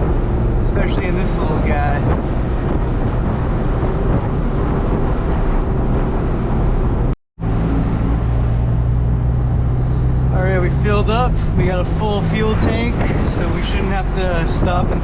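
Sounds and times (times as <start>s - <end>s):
road noise: 0.0s - 15.0s
truck diesel engine hum: 0.0s - 15.0s.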